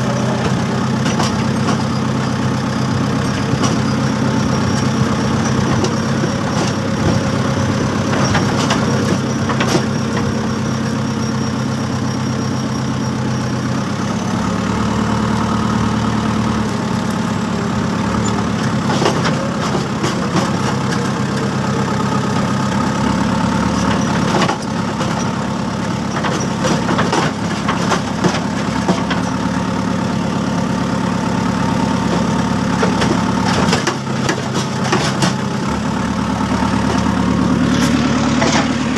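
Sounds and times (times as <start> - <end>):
diesel engine running at low speed: 0.0 - 38.9.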